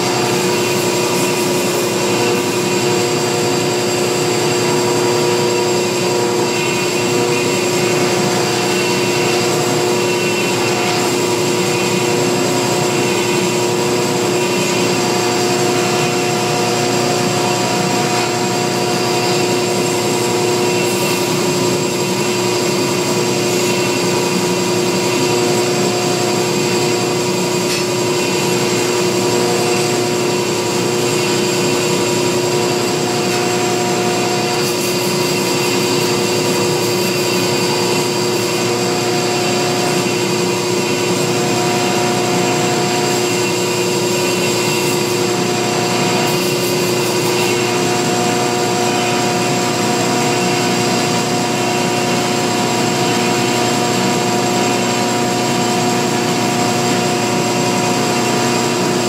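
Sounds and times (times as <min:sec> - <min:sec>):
belt grinder grinding steel: 0:00.0 - 0:59.0.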